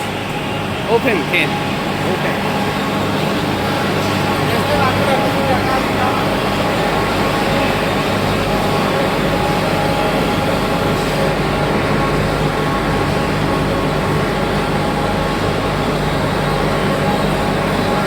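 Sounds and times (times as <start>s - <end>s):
production line machinery running: 0.0s - 18.0s.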